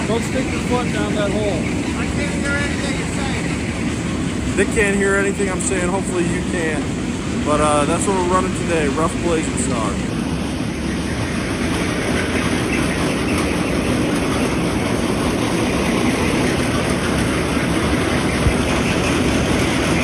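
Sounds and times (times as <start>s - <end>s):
seed cleaning machinery running: 0.0s - 20.0s.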